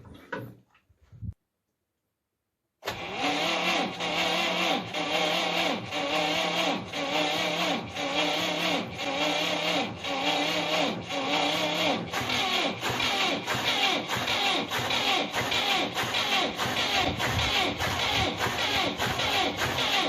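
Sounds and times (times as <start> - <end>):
starter motor cranking engine: 2.8 - 20.0.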